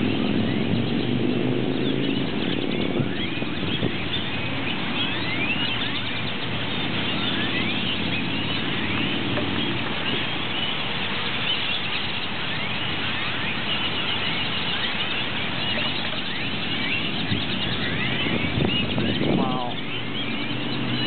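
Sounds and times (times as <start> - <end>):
chorus of bird chirps: 0.0 - 21.0
vehicle engine humming: 0.0 - 21.0.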